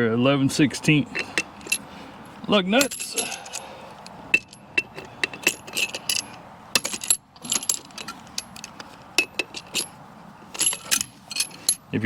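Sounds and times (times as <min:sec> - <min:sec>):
lug wrench clinking on lug nuts: 0:01.0 - 0:11.9.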